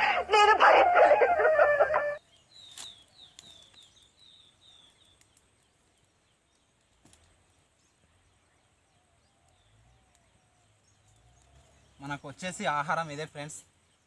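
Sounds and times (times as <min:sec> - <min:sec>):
faint bird song: 0:00.0 - 0:14.0
wood fire crackles: 0:02.2 - 0:14.0.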